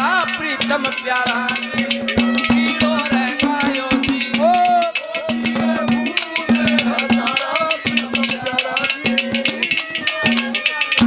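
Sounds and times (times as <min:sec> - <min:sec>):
hand drums played rapidly: 0:00.0 - 0:11.0
sliding melody line: 0:00.0 - 0:11.0.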